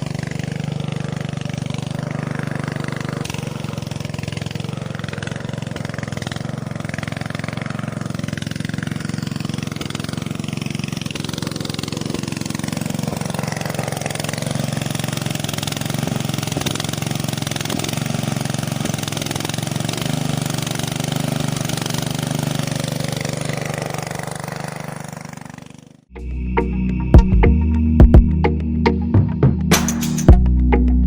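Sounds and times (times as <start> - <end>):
small motor buzzing: 0.0 - 26.1.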